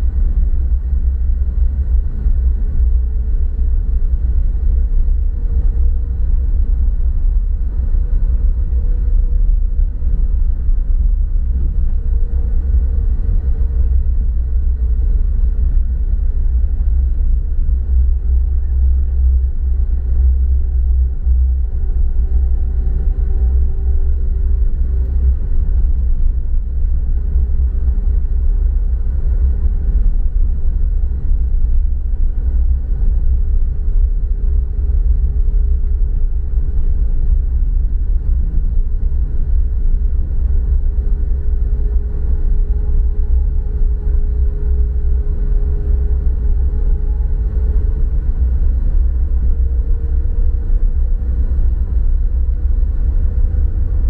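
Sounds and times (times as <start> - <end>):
car driving on paved road: 0.0 - 54.0.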